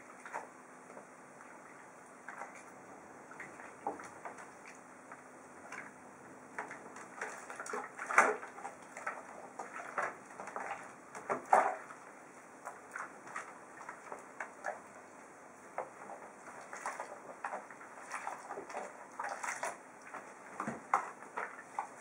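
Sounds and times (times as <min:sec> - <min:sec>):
hands splashing water in tub: 0:00.0 - 0:15.0, 0:15.8 - 0:22.0.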